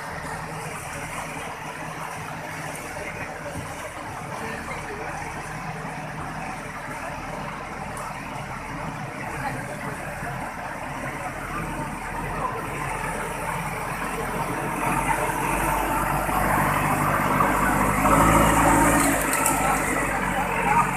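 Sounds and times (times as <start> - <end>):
diesel engine running: 0.0 - 20.9
rushing water: 0.0 - 20.9.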